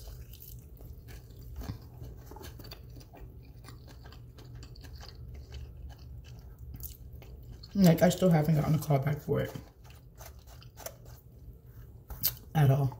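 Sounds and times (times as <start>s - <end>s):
person chewing: 0.0s - 12.6s.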